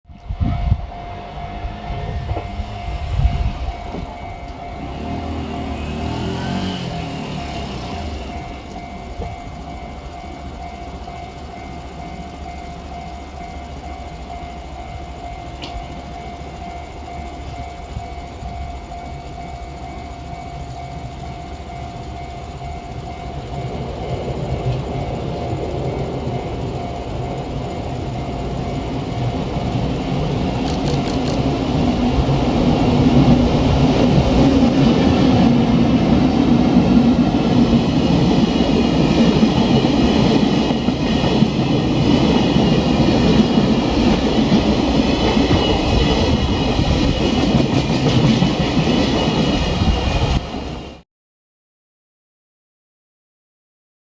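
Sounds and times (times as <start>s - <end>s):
level crossing warning bell: 0.1s - 51.0s
train wheels rumbling on rails: 0.1s - 51.0s.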